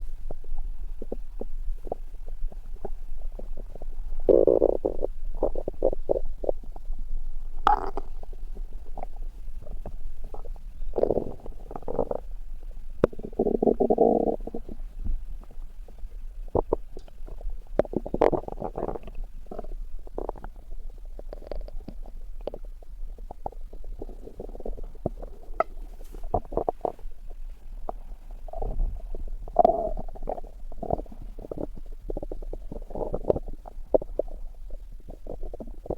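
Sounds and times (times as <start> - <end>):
stomach growling: 0.0 - 35.9.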